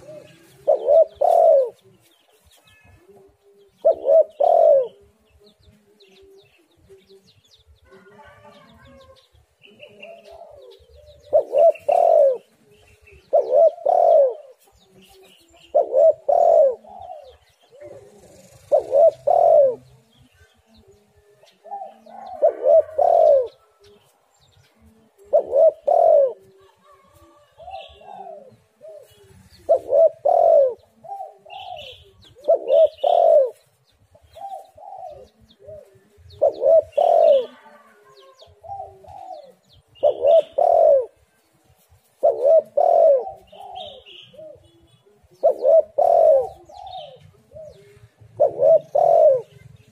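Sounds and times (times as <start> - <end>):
dove cooing: 0.0 - 7.3, 7.9 - 49.9.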